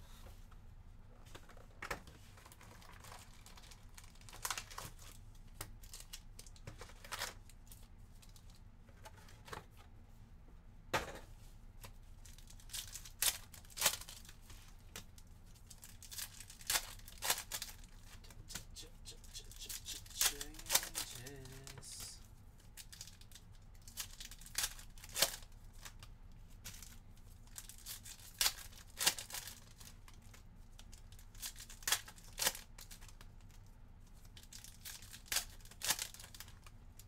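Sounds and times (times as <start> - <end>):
foil wrappers crinkling: 2.4 - 8.6, 12.2 - 33.4, 34.2 - 36.7.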